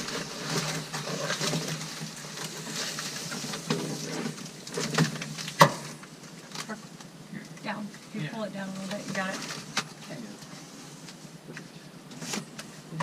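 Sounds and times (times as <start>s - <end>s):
cardboard and foam rustling: 0.0s - 7.0s, 8.3s - 11.4s, 12.1s - 13.0s.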